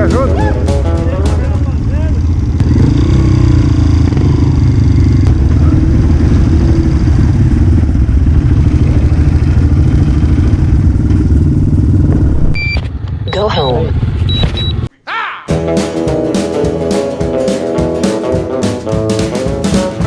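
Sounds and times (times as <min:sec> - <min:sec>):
dirt bike engine running: 0:00.0 - 0:14.3, 0:15.6 - 0:20.0.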